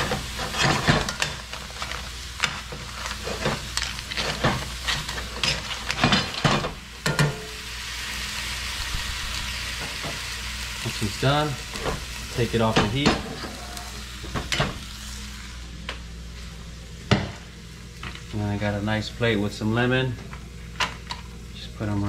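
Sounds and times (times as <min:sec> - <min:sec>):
crab sizzling in a pan: 0:00.0 - 0:22.0.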